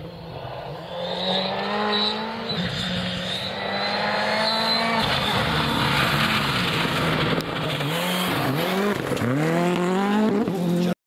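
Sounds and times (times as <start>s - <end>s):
rally car engine high revs: 0.5s - 10.9s.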